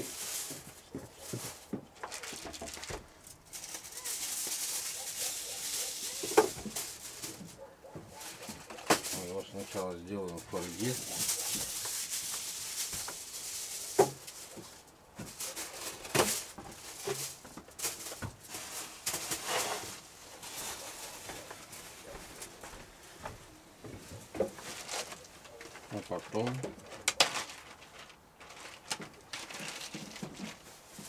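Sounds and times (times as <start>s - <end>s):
aluminium foil crinkling: 0.0s - 22.8s, 24.4s - 31.0s.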